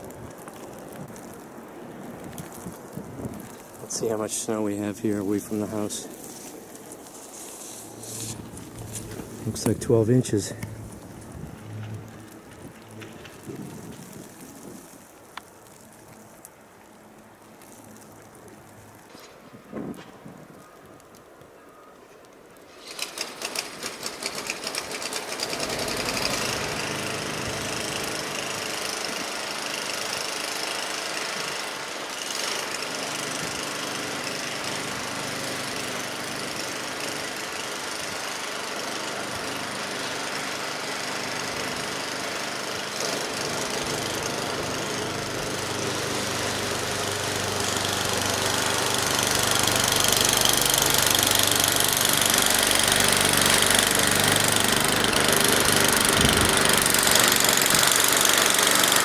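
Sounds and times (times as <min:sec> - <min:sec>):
snowblower engine running: 0:00.0 - 0:16.2, 0:22.8 - 0:59.0.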